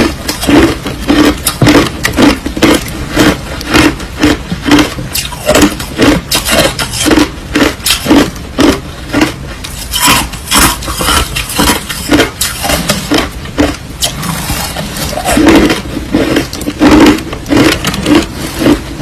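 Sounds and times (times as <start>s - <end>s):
crushed ice crunching between teeth: 0.0s - 19.0s.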